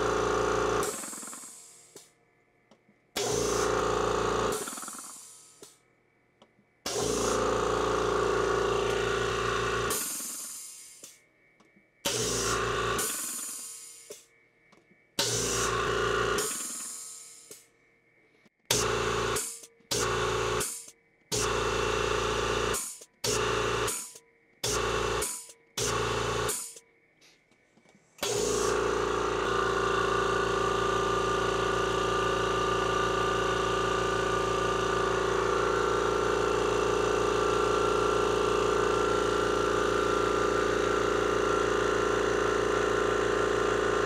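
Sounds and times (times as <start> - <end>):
air compressor motor running: 0.0 - 2.0, 3.2 - 5.7, 6.9 - 10.6, 12.1 - 14.2, 15.2 - 17.0, 18.7 - 26.8, 28.2 - 44.0.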